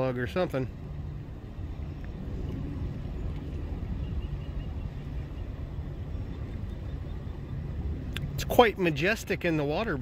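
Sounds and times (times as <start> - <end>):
motorboat engine rumbling: 0.0 - 10.0.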